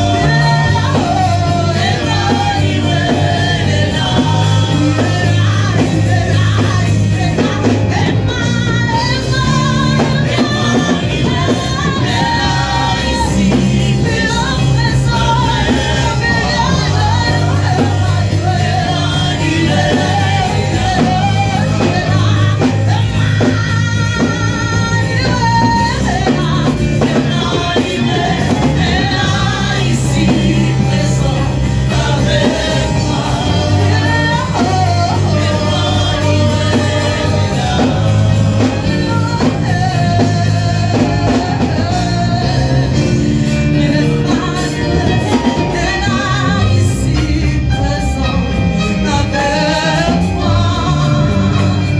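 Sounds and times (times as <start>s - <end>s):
band with bass and drums: 0.0s - 51.9s
gospel singing: 0.0s - 51.9s.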